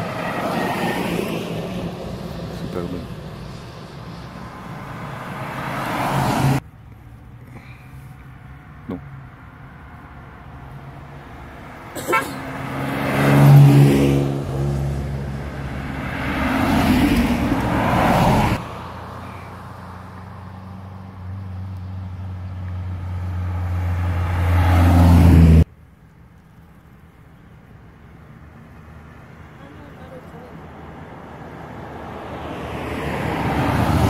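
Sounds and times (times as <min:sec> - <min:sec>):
car engines passing: 0:00.0 - 0:34.0.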